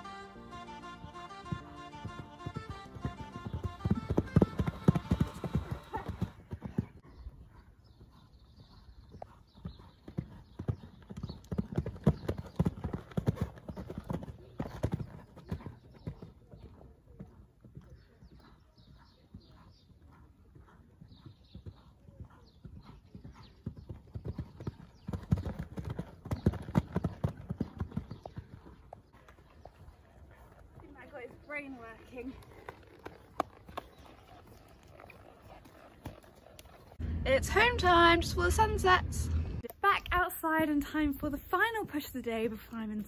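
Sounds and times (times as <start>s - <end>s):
hooves cantering on sand: 0.6s - 37.0s.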